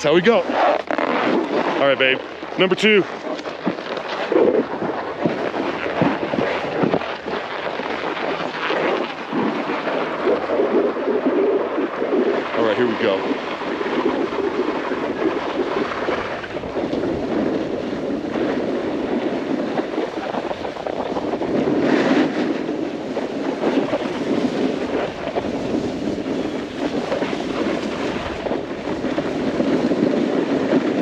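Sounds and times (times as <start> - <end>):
snowboard carving over snow: 0.0 - 31.0
wind rushing over microphone: 0.0 - 31.0.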